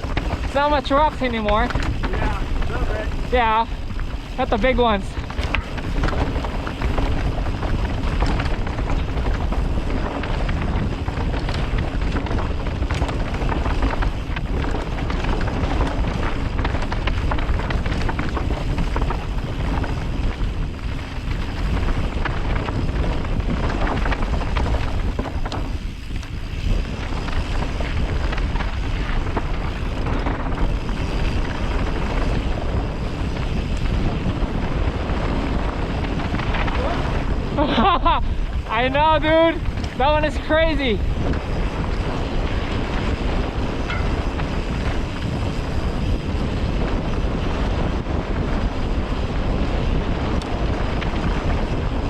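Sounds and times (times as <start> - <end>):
bike rattling over rocks: 0.0 - 52.0
wind buffeting microphone: 0.0 - 52.0.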